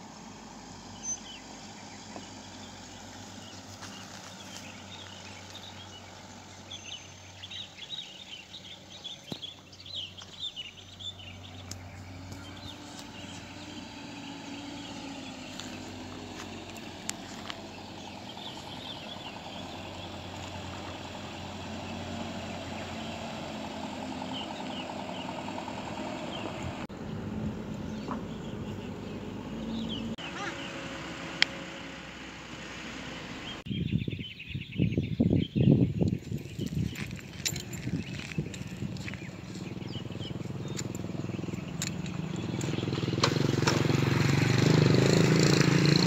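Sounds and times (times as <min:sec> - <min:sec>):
truck engine running: 0:00.0 - 0:33.7, 0:37.0 - 0:46.0
birds chirping: 0:00.0 - 0:46.0.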